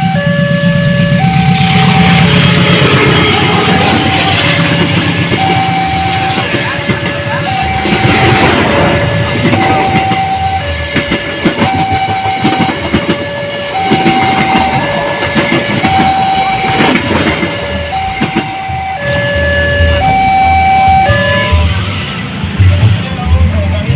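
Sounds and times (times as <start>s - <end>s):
two-tone warning siren: 0.0s - 22.7s
train running on rails: 0.0s - 23.9s.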